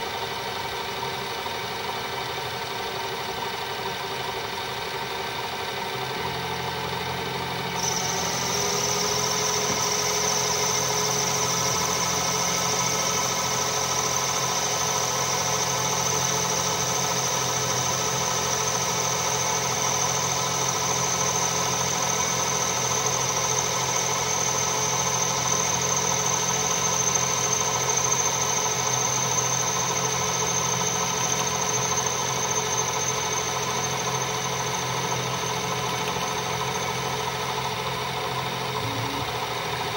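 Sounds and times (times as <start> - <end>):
high steady whine: 6.0 - 39.9
metal lathe cutting: 6.1 - 39.9.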